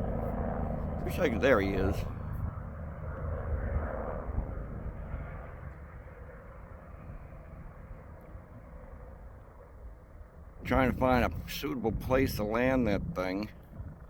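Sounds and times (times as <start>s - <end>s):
helicopter rotor rumble: 0.0s - 14.0s.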